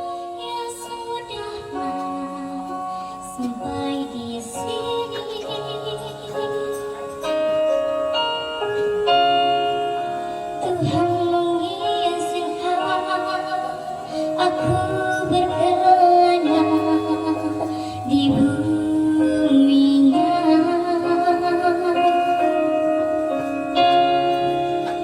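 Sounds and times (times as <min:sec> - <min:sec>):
woman singing: 0:00.0 - 0:07.5, 0:10.5 - 0:24.2
sustained instrumental chords: 0:00.0 - 0:25.0.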